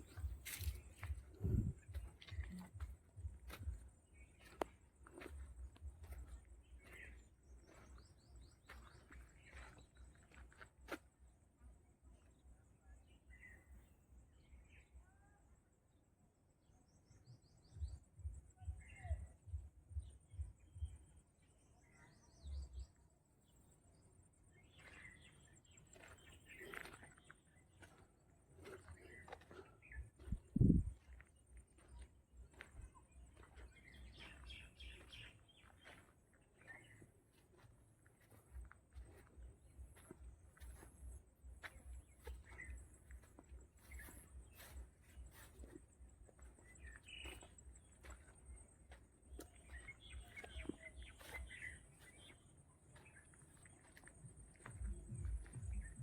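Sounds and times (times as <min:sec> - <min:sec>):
faint bird chirps: 0:00.0 - 0:11.0, 0:11.6 - 0:56.0.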